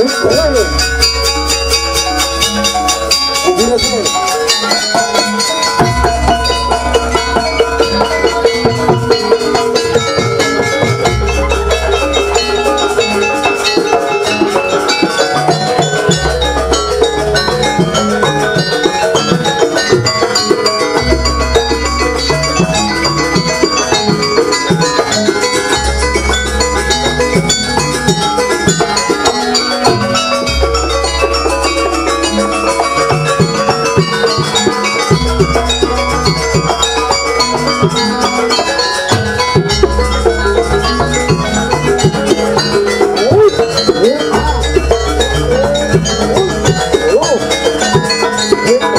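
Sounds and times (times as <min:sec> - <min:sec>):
gamelan ensemble playing: 0:00.0 - 0:48.9.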